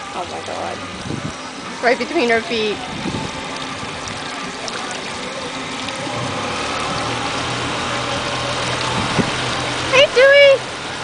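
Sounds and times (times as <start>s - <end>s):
outboard motor running: 0.0s - 11.0s
water noise: 0.0s - 11.0s
wind: 0.0s - 11.0s.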